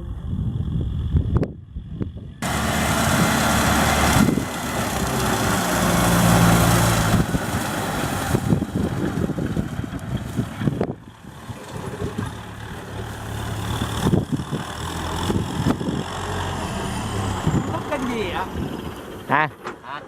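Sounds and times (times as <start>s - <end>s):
tractor diesel engine running: 2.4s - 20.0s.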